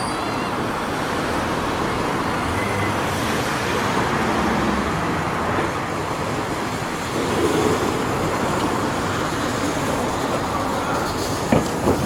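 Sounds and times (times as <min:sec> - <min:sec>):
vehicles running past: 0:00.0 - 0:12.0.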